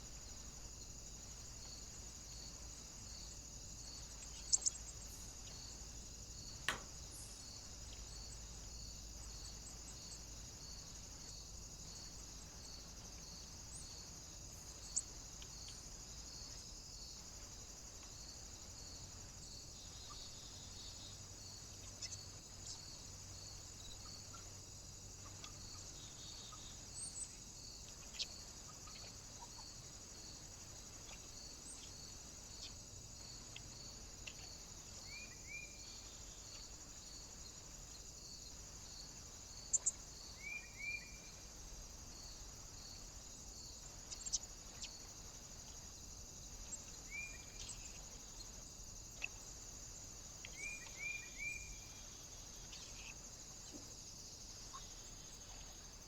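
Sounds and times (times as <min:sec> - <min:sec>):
faint bird chirps: 0:01.6 - 0:16.8, 0:18.9 - 0:46.0, 0:46.6 - 0:49.6, 0:50.4 - 0:54.0.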